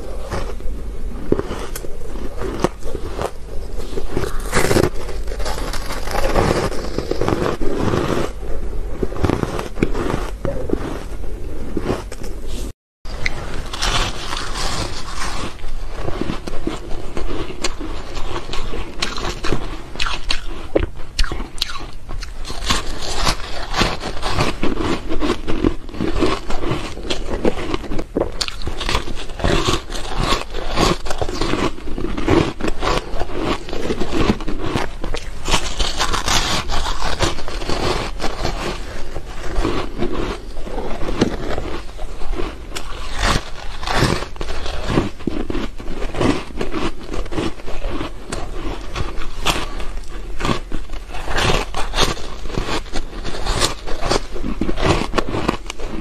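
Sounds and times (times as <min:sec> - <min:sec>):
crunching ice: 0:00.0 - 0:12.4, 0:13.1 - 0:56.0.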